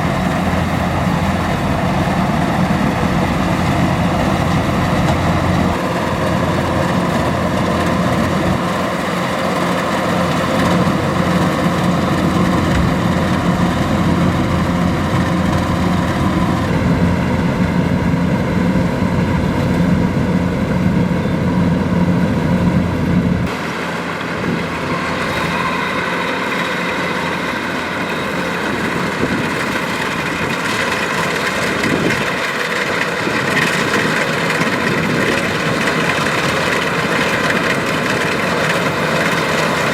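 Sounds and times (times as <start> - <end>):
harvester diesel engine droning: 0.0 - 39.9.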